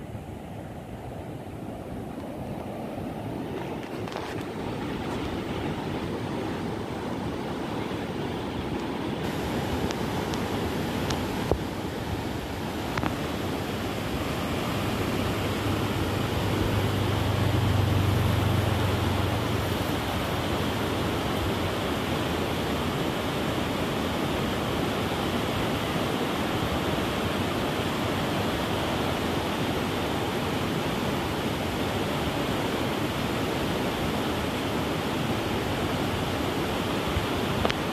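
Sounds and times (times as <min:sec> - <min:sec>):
river rushing over rapids: 0:00.0 - 0:37.9.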